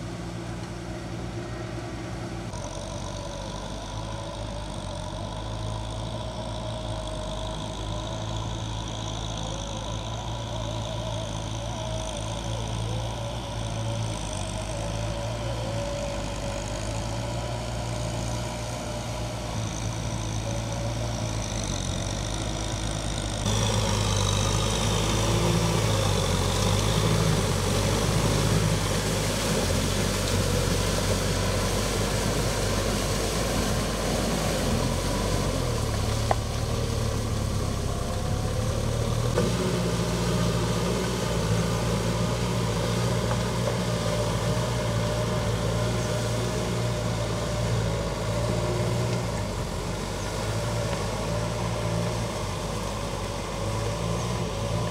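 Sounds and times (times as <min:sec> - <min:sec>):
rotary tiller churning mud: 0:00.0 - 0:54.9
tractor diesel engine running: 0:00.0 - 0:54.9.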